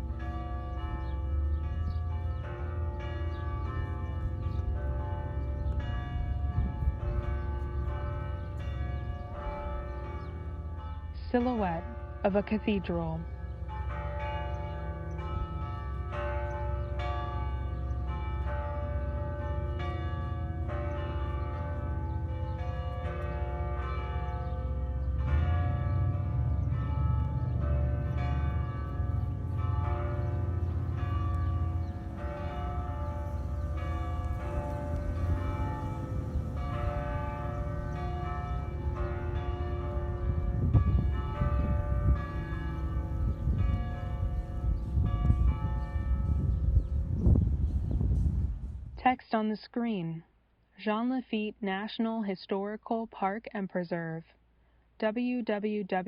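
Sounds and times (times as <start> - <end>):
cathedral bells ringing a peal: 0.0 - 48.5.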